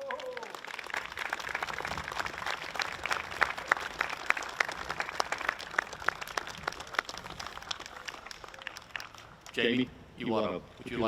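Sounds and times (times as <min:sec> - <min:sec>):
crowd applauding: 0:00.0 - 0:09.7.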